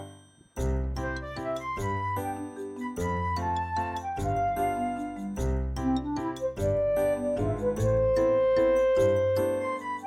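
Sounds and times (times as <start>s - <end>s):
jingly background music: 0.0s - 10.0s.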